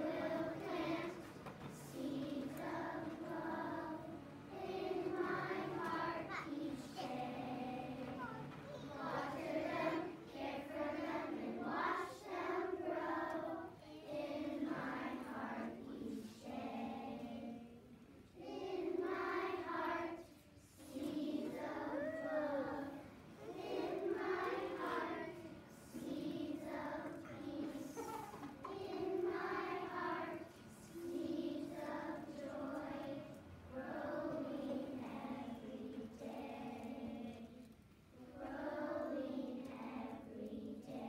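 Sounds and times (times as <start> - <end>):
children's choir singing: 0.0 - 41.0.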